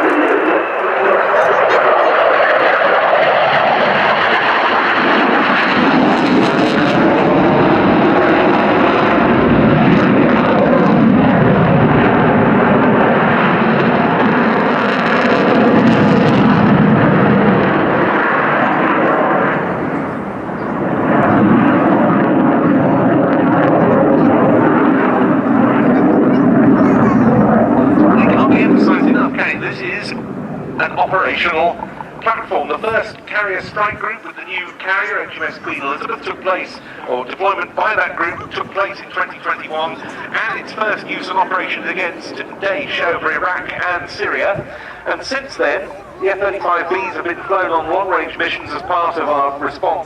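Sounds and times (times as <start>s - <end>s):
fighter jet roaring: 0.0s - 50.0s.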